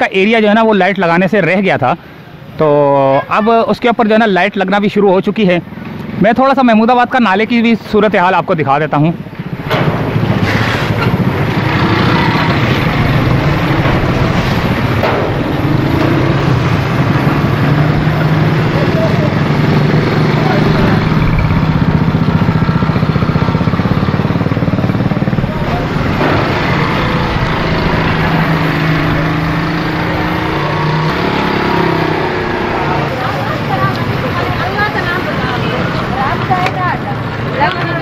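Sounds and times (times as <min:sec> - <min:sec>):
diesel engine droning: 0:05.6 - 0:38.0.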